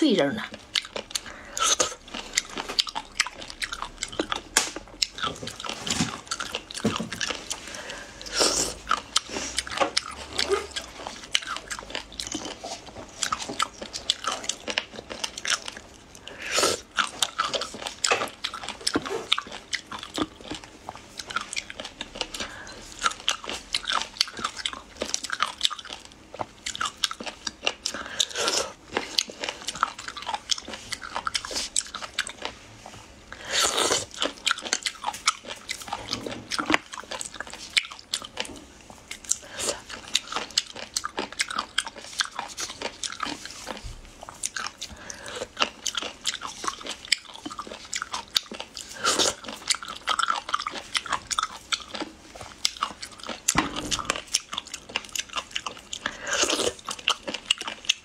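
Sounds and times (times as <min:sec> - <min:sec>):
crunchy chewing: 0:00.4 - 0:58.0.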